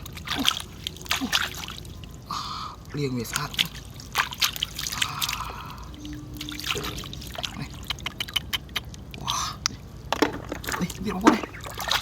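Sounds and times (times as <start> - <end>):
floodwater sloshing: 0.0 - 12.0
small water splashes: 0.0 - 12.0.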